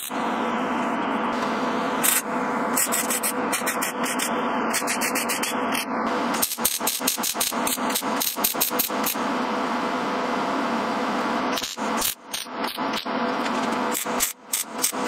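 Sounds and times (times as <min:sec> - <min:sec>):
welder arc crackling and sputtering: 0:00.0 - 0:15.0.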